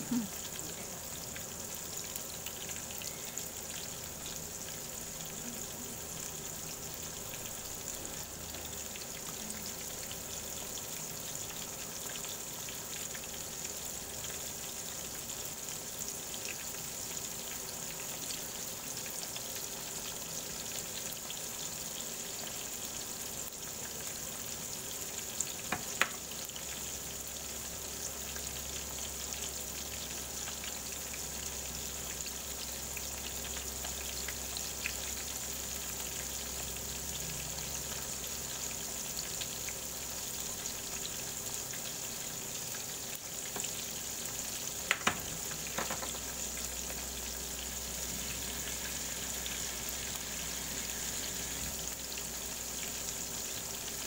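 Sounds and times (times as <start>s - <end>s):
chicken frying in hot oil: 0.0s - 54.0s.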